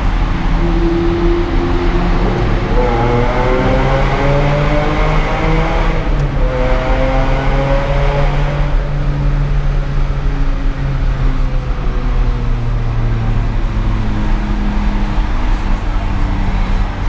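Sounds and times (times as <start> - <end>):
engine revving in a tunnel: 0.0 - 17.0
low drone and road noise: 0.0 - 17.0.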